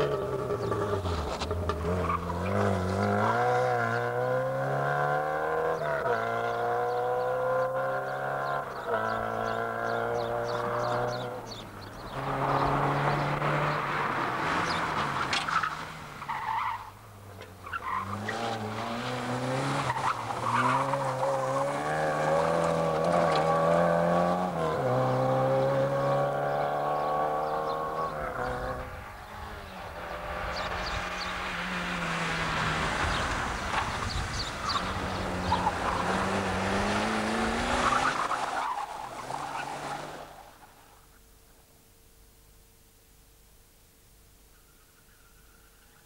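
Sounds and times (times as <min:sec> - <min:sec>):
car engines revving high: 0:00.0 - 0:40.6
tyres skidding on gravel: 0:00.0 - 0:41.0.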